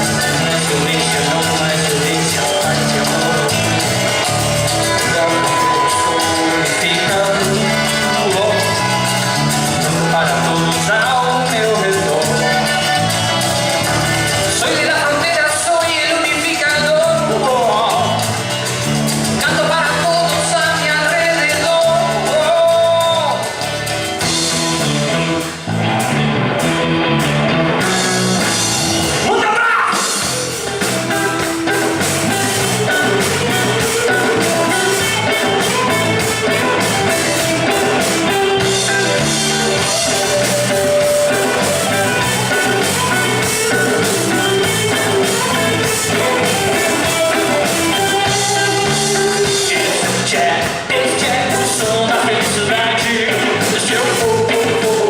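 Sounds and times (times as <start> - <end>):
latin rock band with singing: 0.0 - 55.0.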